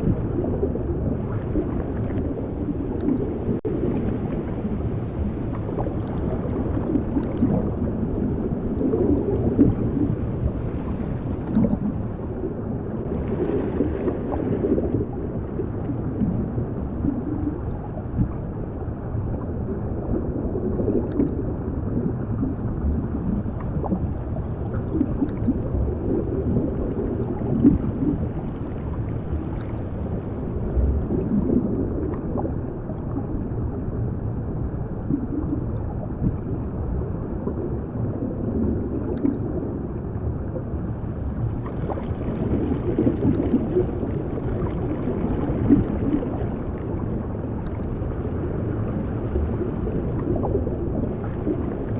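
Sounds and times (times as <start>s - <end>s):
bubbling gurgles: 0.0s - 51.9s
muffled underwater rush: 0.0s - 51.9s.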